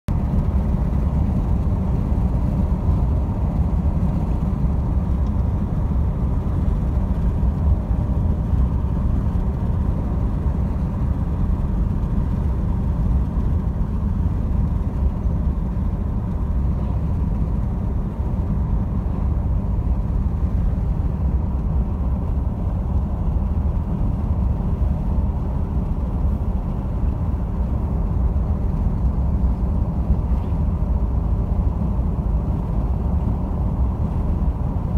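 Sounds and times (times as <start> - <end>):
vehicle interior road rumble: 0.1 - 34.9.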